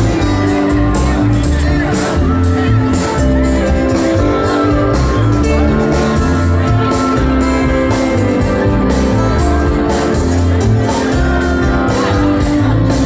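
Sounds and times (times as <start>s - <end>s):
drum beat: 0.0s - 13.0s
guitar: 0.0s - 13.0s
live band playing amplified music: 0.0s - 13.0s.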